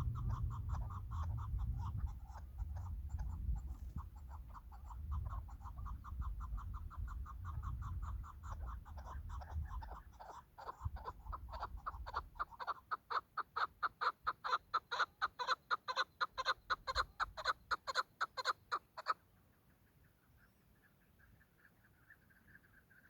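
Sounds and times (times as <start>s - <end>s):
partridge clucking call: 0.0s - 19.2s.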